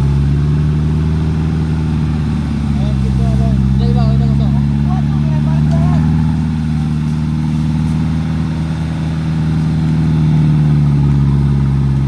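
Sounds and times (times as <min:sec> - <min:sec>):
engine revving under heavy load: 0:00.0 - 0:12.0.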